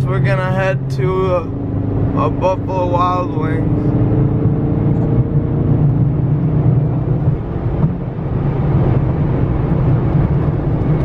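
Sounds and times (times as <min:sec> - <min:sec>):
car engine and exhaust drone: 0:00.0 - 0:11.0
tyre and road noise: 0:00.0 - 0:11.0.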